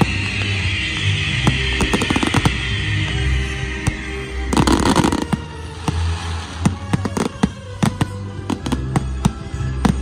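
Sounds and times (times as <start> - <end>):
fireworks bangs and pops: 0.0 - 10.0
fireworks crackle: 0.0 - 10.0.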